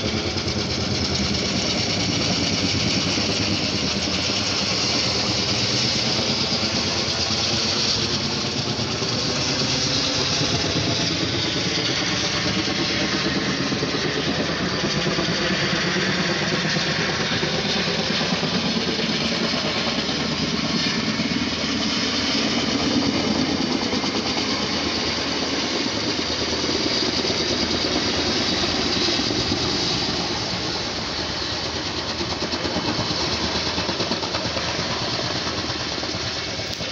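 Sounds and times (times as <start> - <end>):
helicopter rotor and turbine: 0.0 - 36.9.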